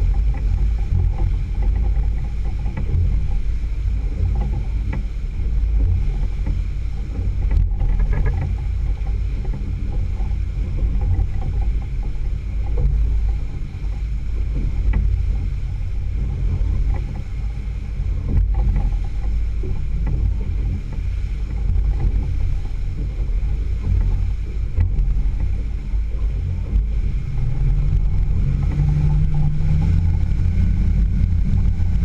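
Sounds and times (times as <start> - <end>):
outboard motor rumbling: 0.0 - 32.0
steady engine hum: 0.0 - 32.0
water rushing past boat: 0.0 - 32.0.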